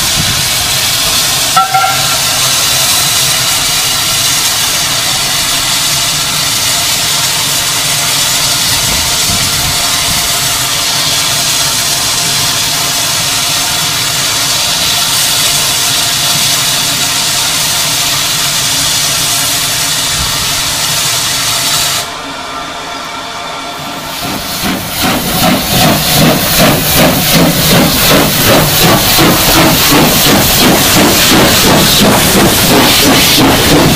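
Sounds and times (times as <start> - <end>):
steam hissing: 0.0 - 22.8, 23.8 - 33.9
steam locomotive chuffing: 0.0 - 33.9.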